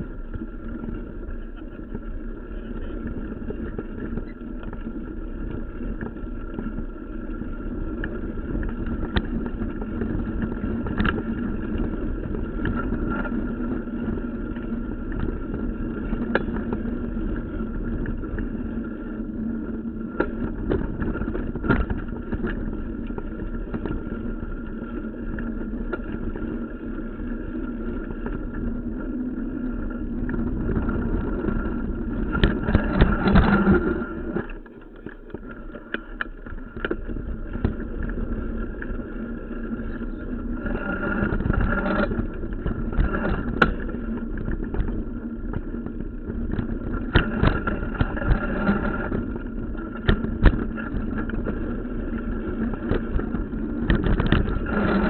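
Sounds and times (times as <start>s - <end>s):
bike tyres rumbling on dirt: 0.0s - 55.0s
bike rattling clicks and knocks: 2.6s - 55.0s.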